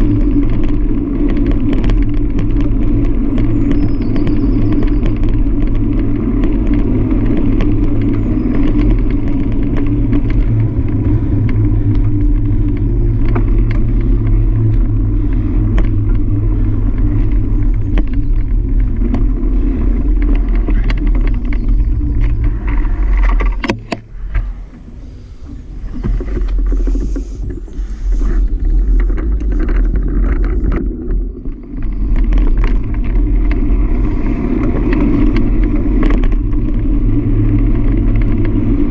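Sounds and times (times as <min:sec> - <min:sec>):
road noise: 0:00.0 - 0:38.9
wind rumble: 0:00.0 - 0:38.9.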